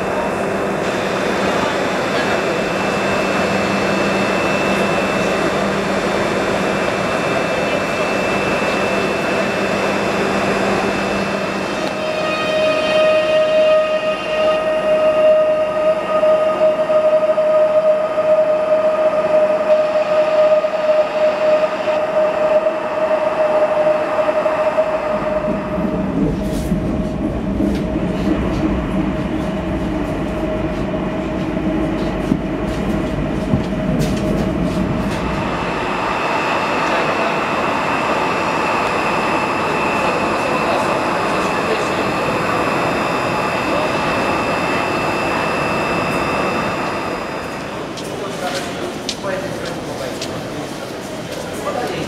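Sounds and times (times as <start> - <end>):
electric train whine: 0.0 - 52.0
train running rumble: 0.0 - 52.0.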